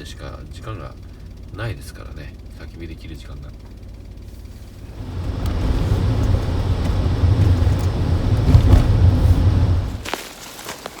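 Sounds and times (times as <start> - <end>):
car engine and road rumble: 0.0 - 10.2.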